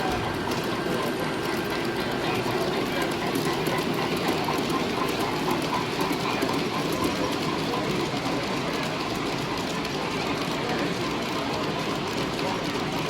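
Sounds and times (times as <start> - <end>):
model train rolling clatter: 0.0 - 13.0.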